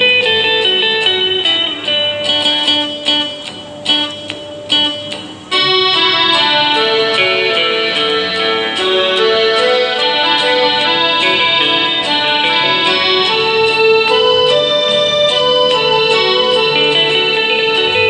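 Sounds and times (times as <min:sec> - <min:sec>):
plucked guitar melody: 0:00.0 - 0:18.0.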